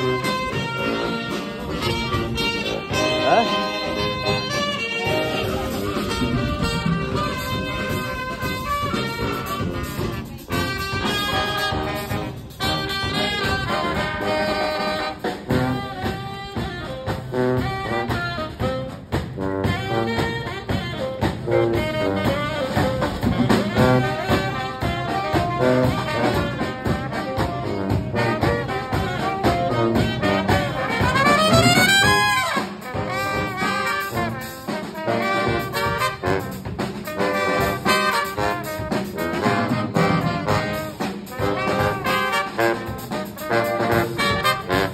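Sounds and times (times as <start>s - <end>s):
brass band playing jazzy tune: 0.0s - 44.9s
drums: 0.0s - 44.9s.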